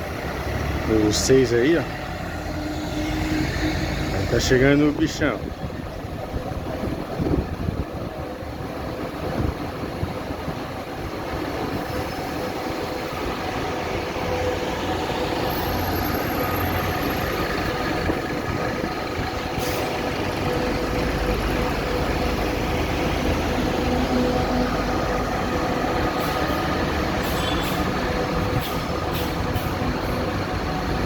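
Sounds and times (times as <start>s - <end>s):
bus diesel engine humming: 0.0s - 31.0s.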